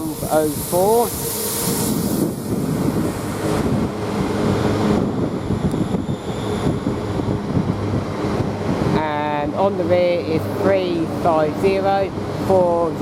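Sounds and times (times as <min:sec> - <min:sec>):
steady low tones: 0:00.0 - 0:13.0
train wheels rumbling: 0:00.0 - 0:13.0.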